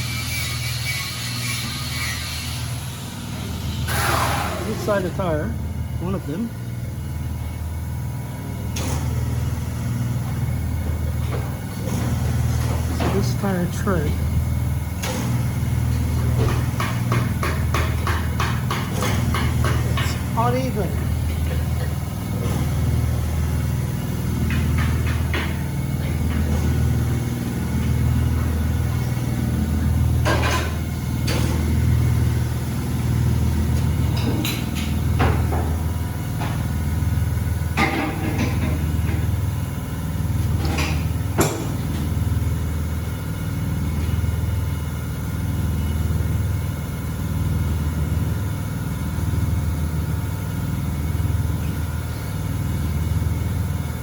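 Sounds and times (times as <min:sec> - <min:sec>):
engine rumbling: 0:03.0 - 0:54.0.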